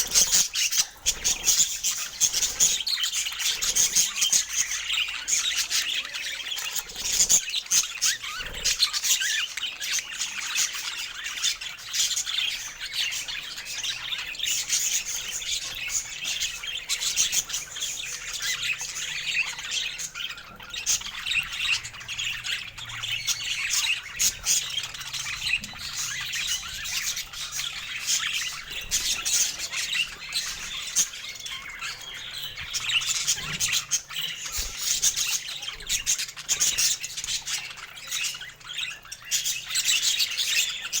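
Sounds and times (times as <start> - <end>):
budgerigars chattering: 0.0 - 41.0.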